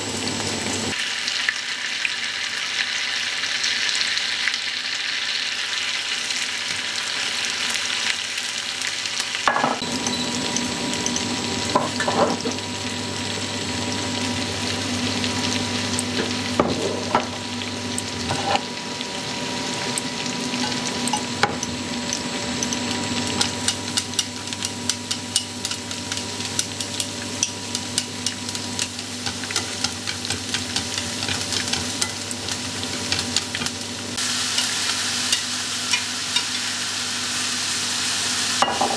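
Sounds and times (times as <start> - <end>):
oil sizzling in frying pan: 0.0 - 38.9.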